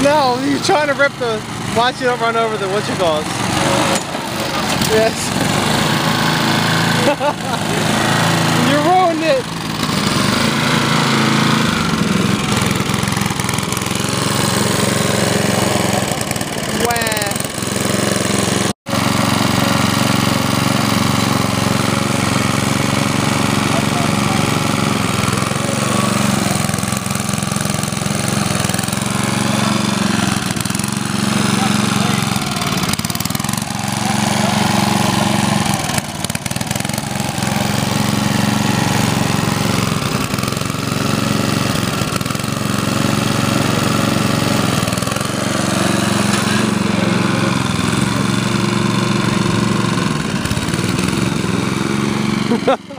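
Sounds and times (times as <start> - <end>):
lawn tractor engine running: 0.0 - 52.9.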